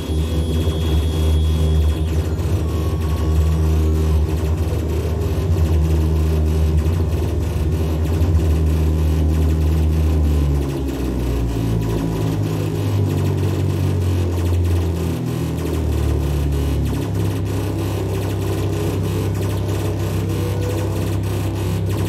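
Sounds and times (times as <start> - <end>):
low synthesizer drone: 0.0 - 22.0
machine-like rattling pulse: 0.0 - 22.0.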